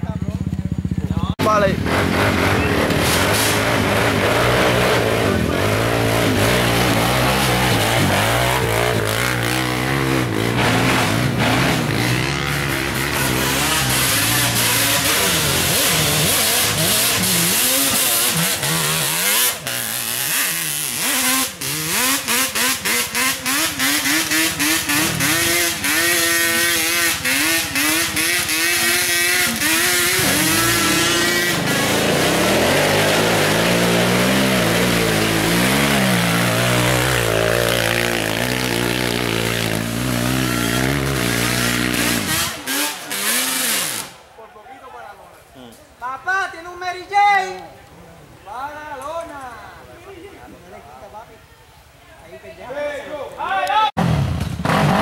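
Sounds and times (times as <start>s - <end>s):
two-stroke motorcycle engines revving: 0.0s - 44.2s, 54.0s - 55.0s.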